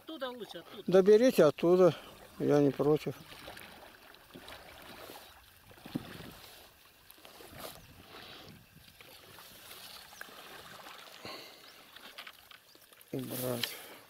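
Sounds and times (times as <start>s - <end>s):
paddles splashing: 0.0s - 14.0s.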